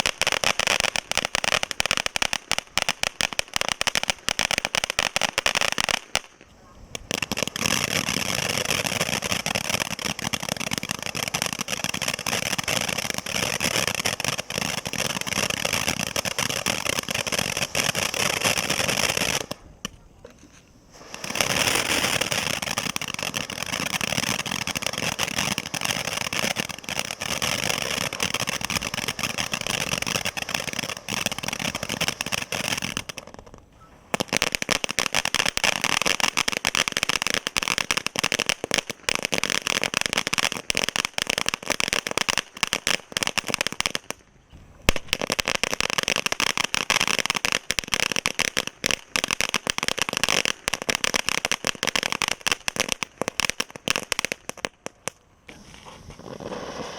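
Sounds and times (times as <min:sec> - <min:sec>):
firework fountains hissing: 0:00.0 - 0:44.1, 0:44.8 - 0:56.9.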